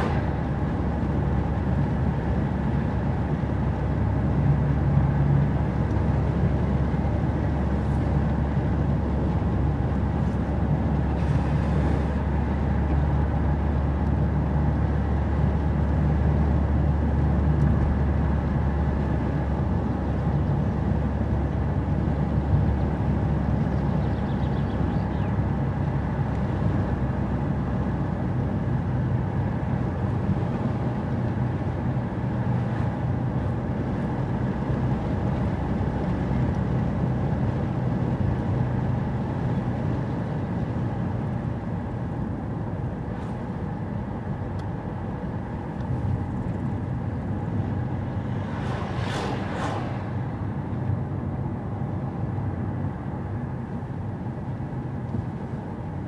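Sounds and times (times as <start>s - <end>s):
tyre and road rumble: 0.0s - 4.7s, 5.4s - 52.7s
car engine hum: 0.0s - 56.0s.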